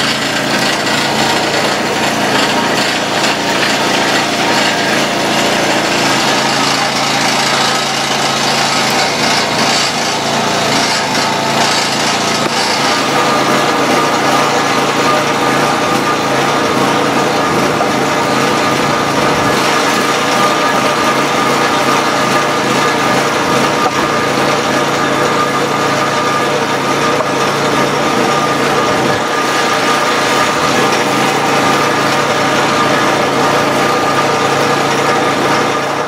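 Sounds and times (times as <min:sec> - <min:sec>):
small gas engine running: 0:00.0 - 0:36.0.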